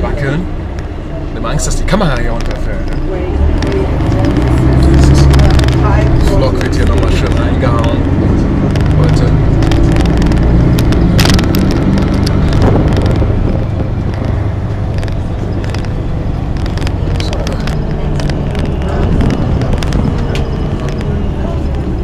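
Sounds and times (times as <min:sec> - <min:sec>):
bus engine and road rumble: 0:00.0 - 0:22.0
rattles and clicks: 0:02.2 - 0:22.0.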